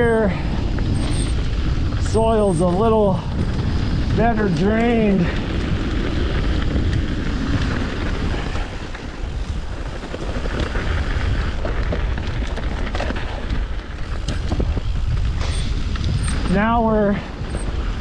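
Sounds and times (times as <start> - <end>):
bike clicks and rattles: 0.0 - 18.0
tyres rolling on dirt: 0.0 - 18.0
wind noise on microphone: 0.0 - 18.0.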